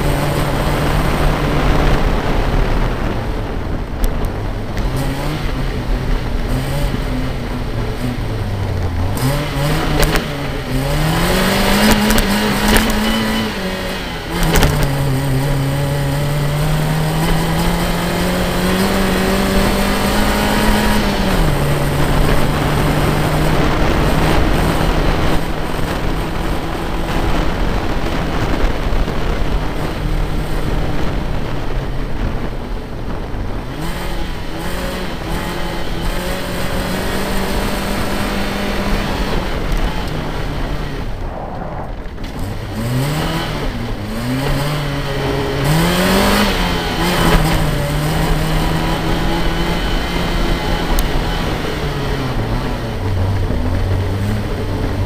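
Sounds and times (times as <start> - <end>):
car engine driven hard: 0.0 - 55.0
road and wind noise: 0.0 - 55.0.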